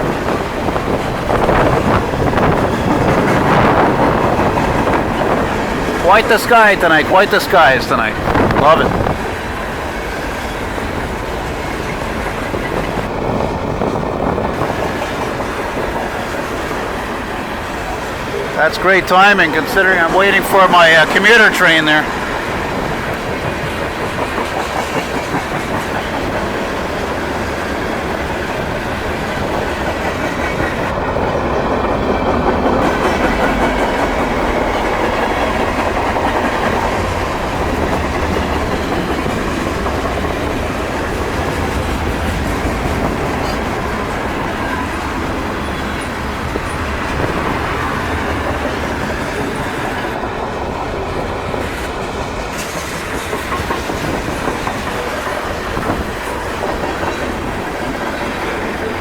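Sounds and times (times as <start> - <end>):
train cars rumbling past: 0.0 - 59.0
wheels clacking over rail joints: 0.0 - 59.0.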